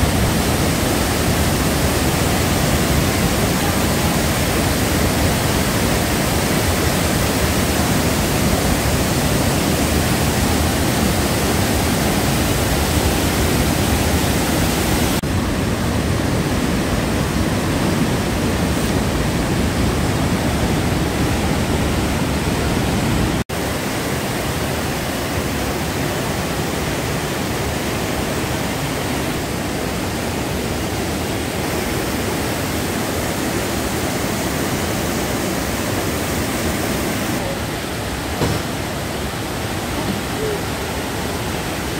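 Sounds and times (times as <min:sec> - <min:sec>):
white-water torrent and waterfall rushing: 0:00.0 - 0:41.9.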